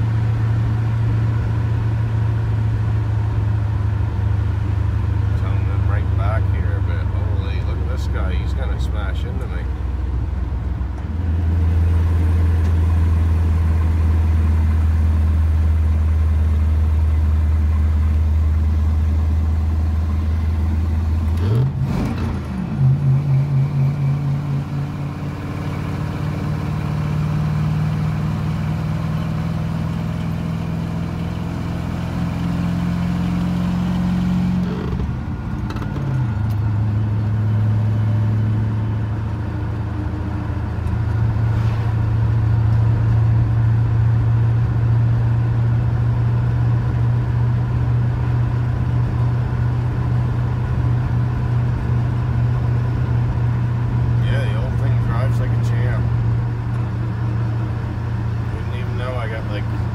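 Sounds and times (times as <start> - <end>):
pickup truck engine droning: 0.0 - 59.9.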